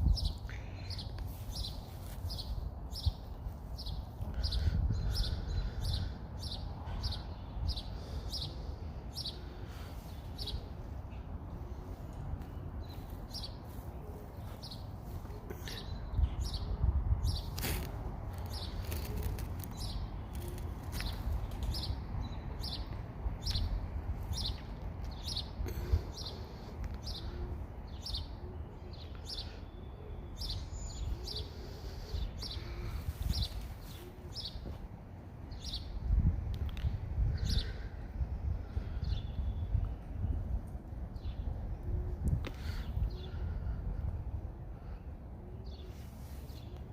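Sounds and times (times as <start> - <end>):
wind rumbling on microphone: 0.0 - 28.2, 30.4 - 46.9
small birds chirping: 0.0 - 46.9.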